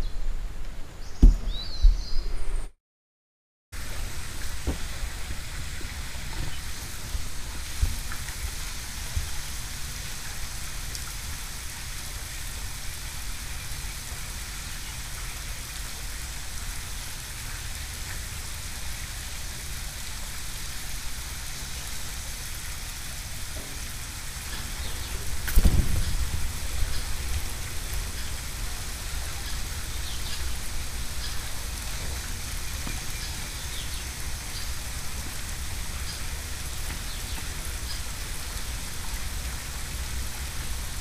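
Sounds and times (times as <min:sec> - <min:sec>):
even hiss: 0:03.8 - 0:41.0.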